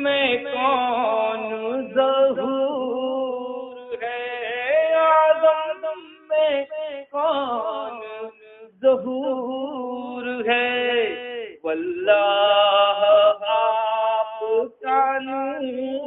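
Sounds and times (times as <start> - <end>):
man singing: 0.0 - 16.0.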